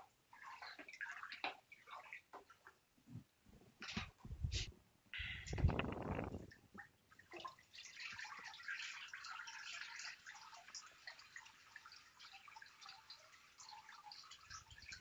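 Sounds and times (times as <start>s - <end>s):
water draining and dripping: 0.0s - 2.9s, 5.2s - 15.0s.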